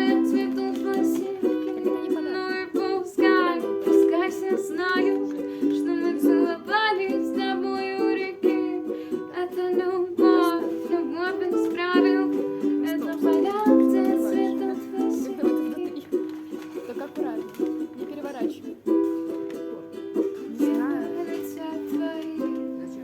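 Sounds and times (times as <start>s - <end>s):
person singing: 0.0s - 16.3s, 19.6s - 23.0s
ukulele playing: 0.0s - 23.0s.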